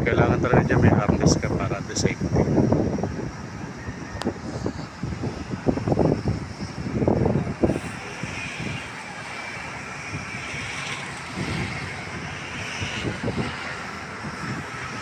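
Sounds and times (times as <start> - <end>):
traffic rumble: 0.0 - 15.0
wind buffeting microphone: 0.0 - 15.0.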